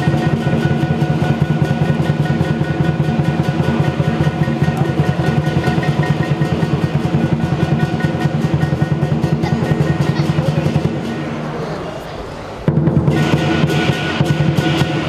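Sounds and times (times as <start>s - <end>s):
big drum beaten fast: 0.0s - 11.6s, 12.4s - 15.0s
clashing cymbals: 0.0s - 15.0s.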